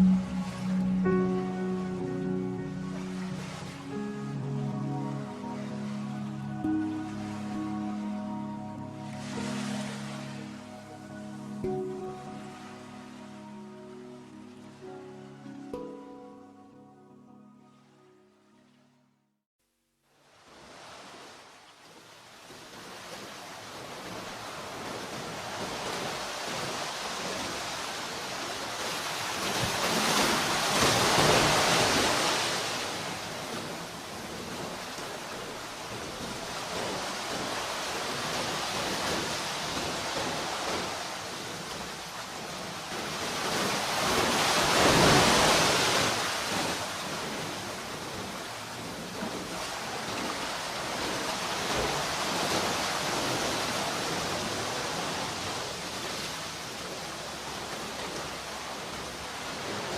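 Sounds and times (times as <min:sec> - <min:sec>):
sea waves breaking on shore: 0:00.0 - 0:16.4, 0:20.2 - 0:59.9.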